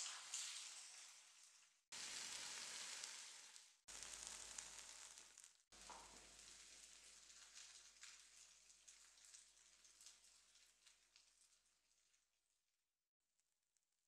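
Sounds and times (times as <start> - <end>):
faint sizzling in frying pan: 0.0 - 12.3.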